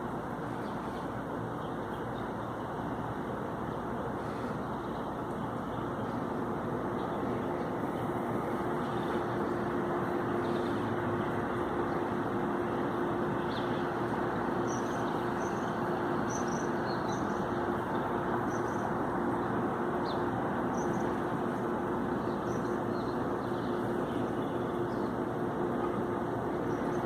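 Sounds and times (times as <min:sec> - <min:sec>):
road traffic hum: 0:00.0 - 0:27.0
birds chirping: 0:00.1 - 0:27.0.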